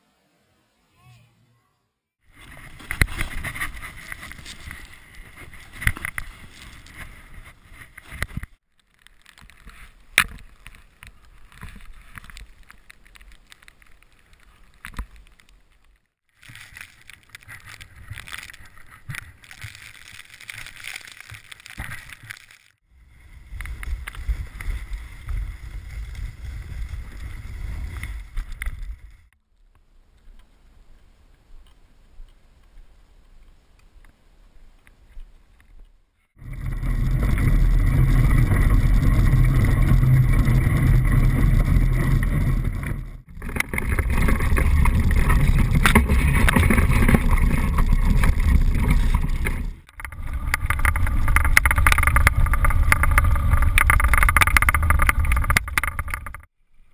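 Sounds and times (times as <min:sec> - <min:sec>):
bike rattling on rough trail: 0:02.2 - 0:29.3, 0:36.4 - 0:56.6.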